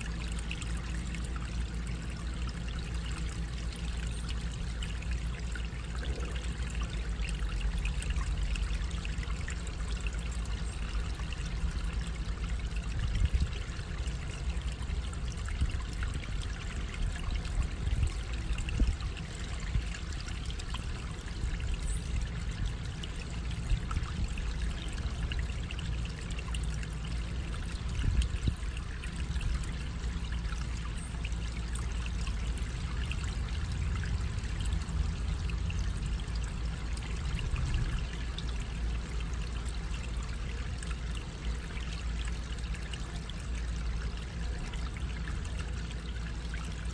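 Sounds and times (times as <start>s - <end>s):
water trickling through culvert: 0.0s - 46.9s.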